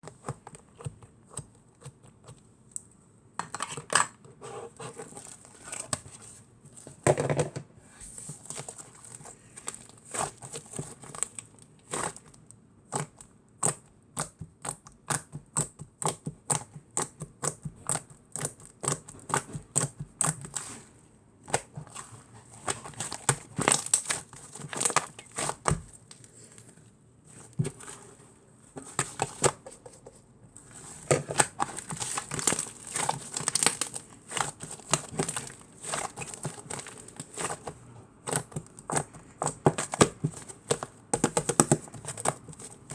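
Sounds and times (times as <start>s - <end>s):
crinkling and rustling: 0.0s - 13.2s, 18.4s - 42.9s.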